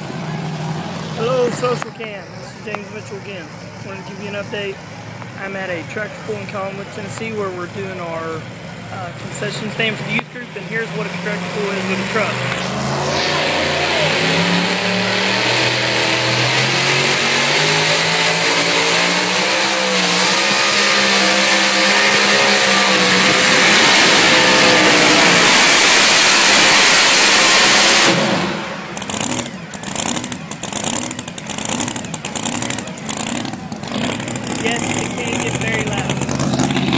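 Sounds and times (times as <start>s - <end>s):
truck engine revving hard: 0.0s - 36.9s.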